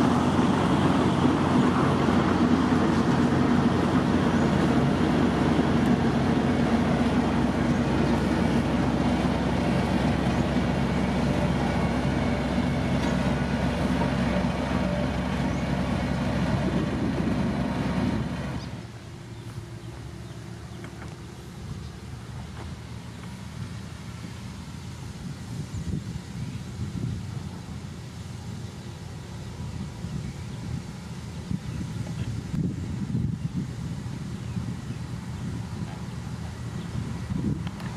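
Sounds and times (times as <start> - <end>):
diesel construction machinery running: 0.0 - 37.9.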